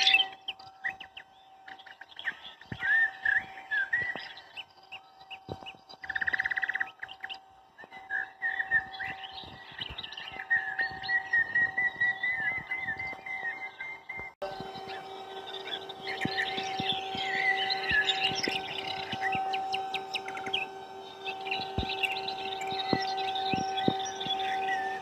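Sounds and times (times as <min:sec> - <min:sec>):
buzzy bird trill: 0:00.0 - 0:25.0
faint steady hum: 0:00.0 - 0:25.0
small birds chirping: 0:00.0 - 0:25.0.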